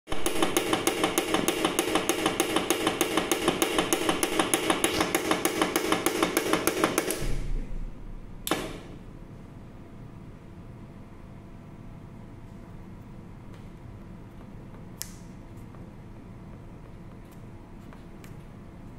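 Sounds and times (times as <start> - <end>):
steady hum: 0.1 - 18.9.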